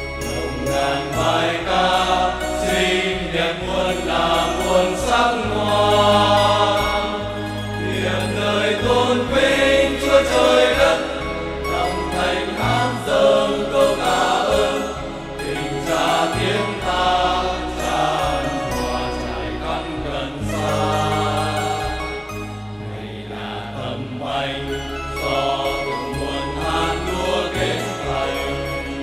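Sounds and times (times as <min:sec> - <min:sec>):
electronic keyboard bass notes: 0:00.0 - 0:29.0
men's choir singing a hymn: 0:00.2 - 0:29.0.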